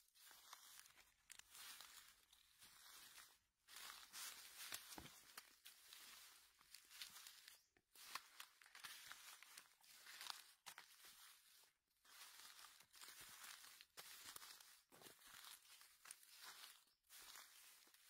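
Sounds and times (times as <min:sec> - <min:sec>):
footsteps crunching dry leaves: 0:00.0 - 0:18.0.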